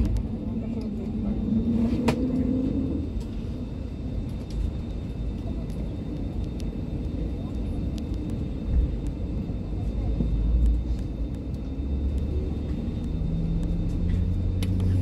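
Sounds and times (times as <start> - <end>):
low cabin rumble: 0.0 - 15.0
low hum: 0.0 - 15.0.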